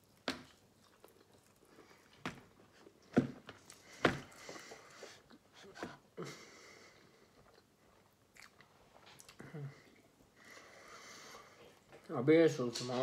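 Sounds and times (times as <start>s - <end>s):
person chewing food: 0.0s - 10.6s.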